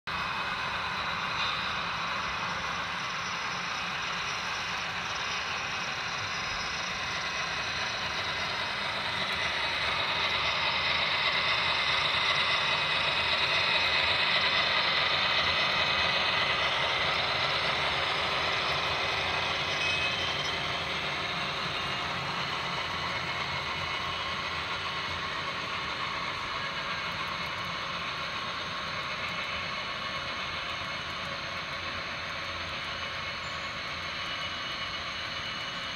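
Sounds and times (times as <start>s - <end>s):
model train motors whirring: 0.1s - 35.9s.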